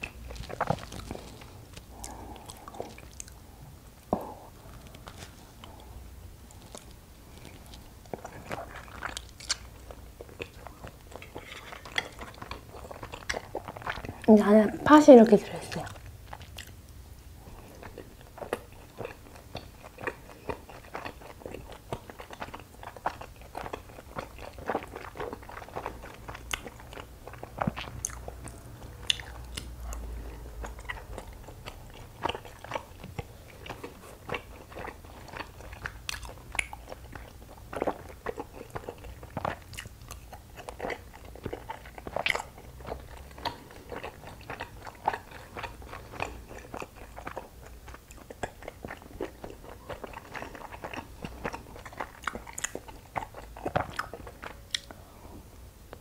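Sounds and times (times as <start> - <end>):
chewing with wet mouth clicks: 0.0 - 3.4, 4.7 - 14.3, 15.7 - 55.0.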